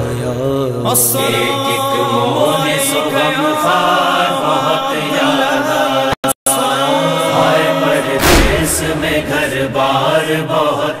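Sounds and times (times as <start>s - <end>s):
voices chanting in chorus: 0.9s - 11.0s.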